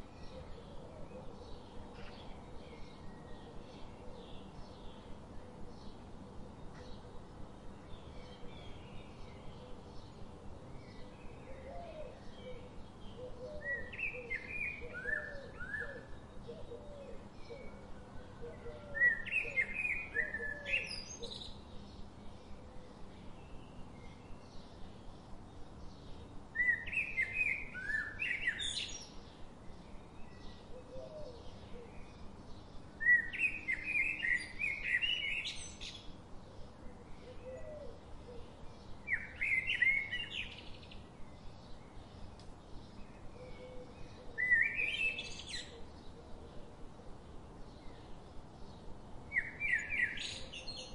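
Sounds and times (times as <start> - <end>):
steady background hiss: 0.0 - 50.9.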